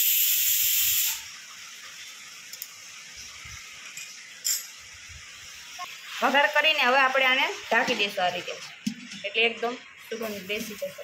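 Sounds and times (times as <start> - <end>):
hot oil sizzling on seeds: 0.0 - 11.0.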